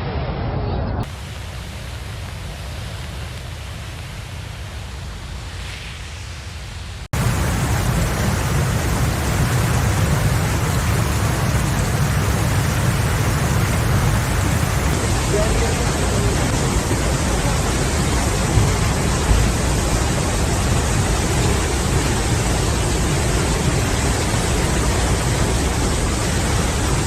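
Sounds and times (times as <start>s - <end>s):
rushing water: 1.0s - 6.2s, 7.0s - 27.0s.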